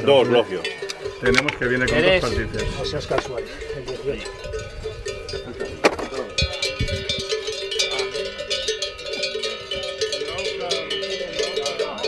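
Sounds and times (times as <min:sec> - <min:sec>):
cowbells clanging: 0:00.0 - 0:12.0.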